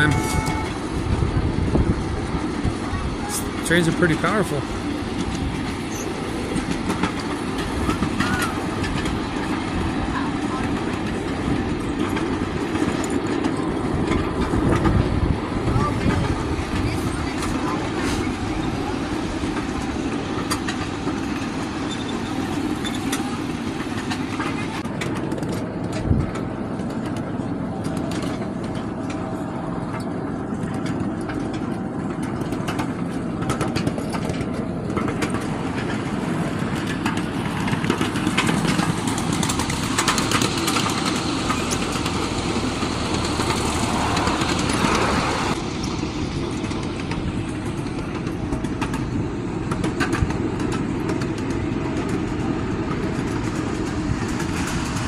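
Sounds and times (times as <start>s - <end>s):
miniature train rumbling on track: 0.0s - 55.0s
track clicks and clacks: 0.0s - 55.0s.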